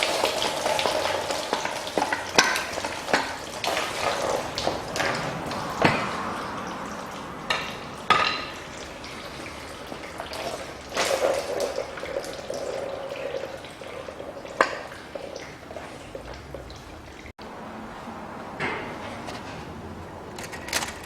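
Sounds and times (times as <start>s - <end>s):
liquid trickling: 0.0s - 21.0s.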